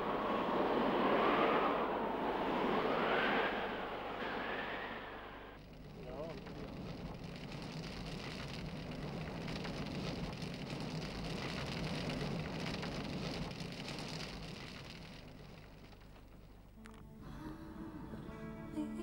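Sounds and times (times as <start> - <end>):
avalanche rushing roar: 0.0 - 16.4.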